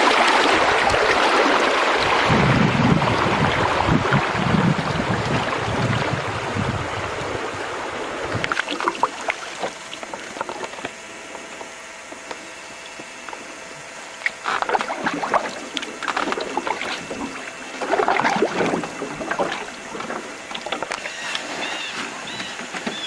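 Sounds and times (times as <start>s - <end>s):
water drips and small splashes: 0.0s - 22.8s
water rushing around canoe: 0.0s - 23.0s.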